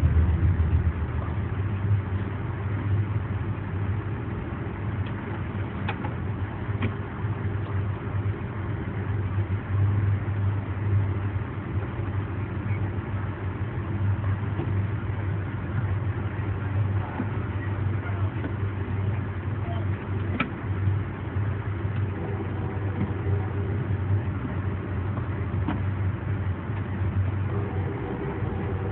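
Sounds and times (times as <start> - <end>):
vehicle engine hum: 0.0 - 28.9.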